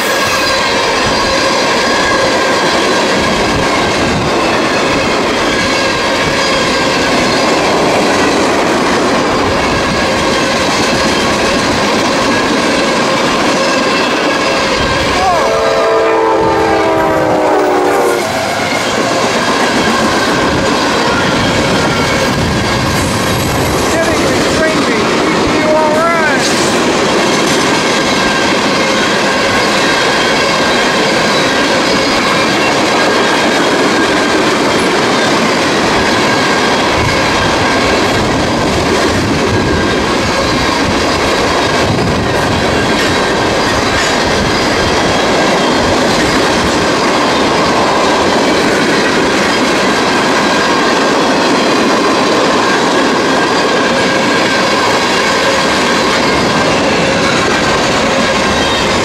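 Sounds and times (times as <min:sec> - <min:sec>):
high wheel squeal: 0:00.0 - 0:38.5, 0:39.1 - 0:59.0
train wheels rumbling and rattling: 0:00.0 - 0:59.0.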